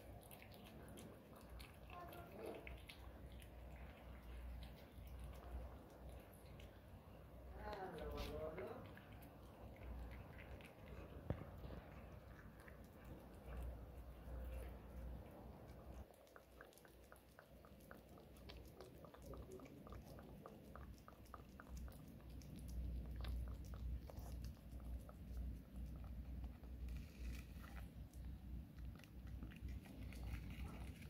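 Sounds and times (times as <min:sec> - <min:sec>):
cat chewing food: 0:00.0 - 0:31.0.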